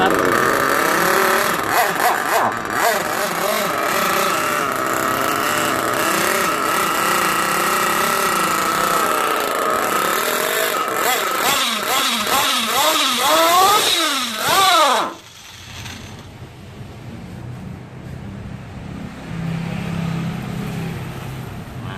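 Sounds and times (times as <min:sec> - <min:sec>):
nitro engine idling and revving: 0:00.0 - 0:21.9.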